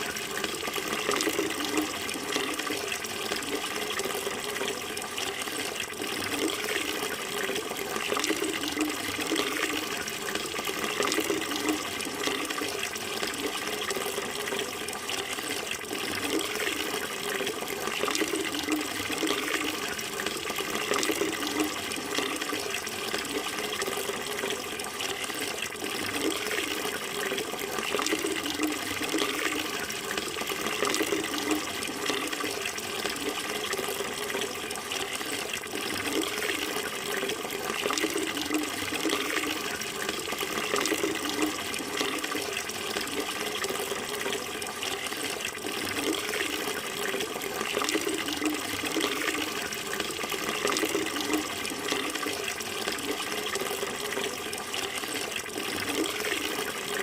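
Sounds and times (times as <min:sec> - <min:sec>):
running water flowing: 0:00.0 - 0:57.0.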